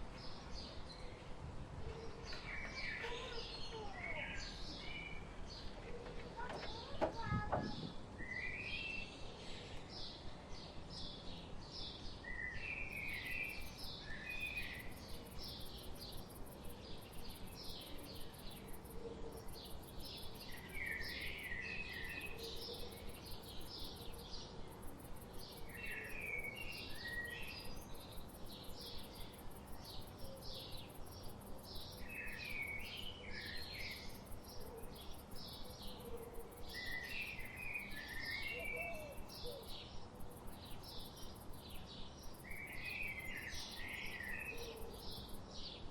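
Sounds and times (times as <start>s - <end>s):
background hiss: 0.0s - 45.9s
songbirds singing: 0.0s - 45.9s.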